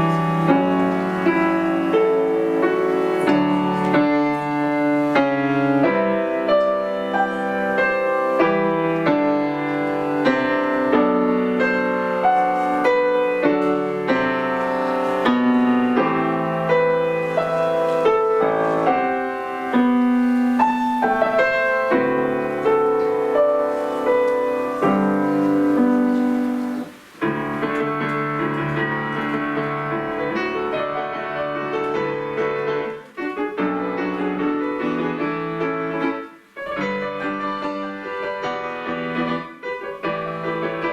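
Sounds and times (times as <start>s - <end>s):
piano piece: 0.0s - 40.9s.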